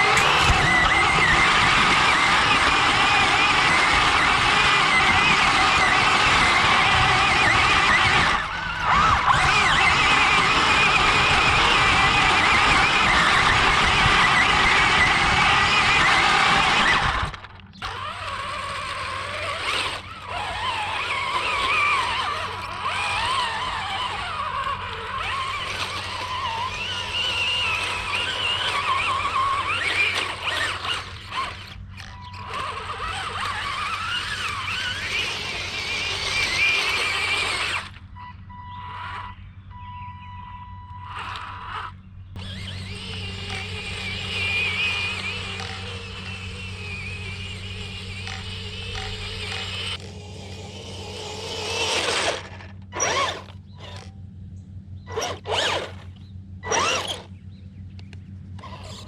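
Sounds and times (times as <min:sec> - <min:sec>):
toy tank motors whining: 0:00.0 - 0:54.3, 0:55.0 - 0:59.0.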